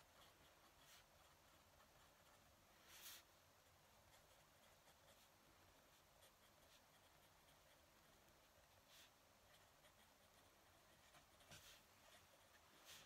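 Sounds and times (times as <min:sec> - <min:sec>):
pen nib scratching on paper: 0:00.0 - 0:13.0.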